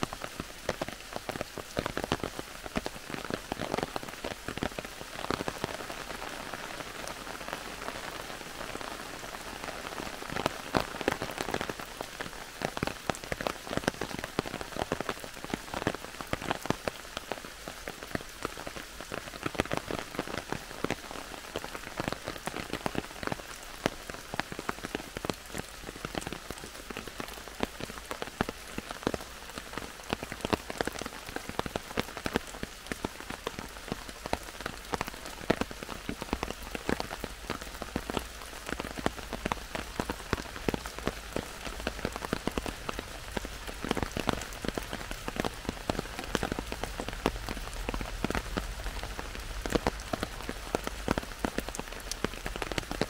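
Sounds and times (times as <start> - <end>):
raindrops striking leaves: 0.0 - 53.0.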